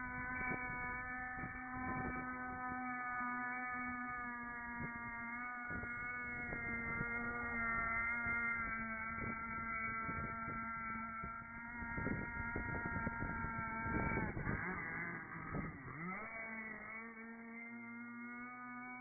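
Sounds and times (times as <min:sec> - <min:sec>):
speedboat engine whining: 0:00.0 - 0:19.0.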